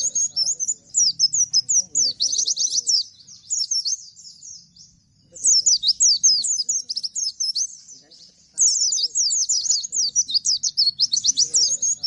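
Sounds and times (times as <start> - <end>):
bird singing rapid bursts: 0.0 - 12.0.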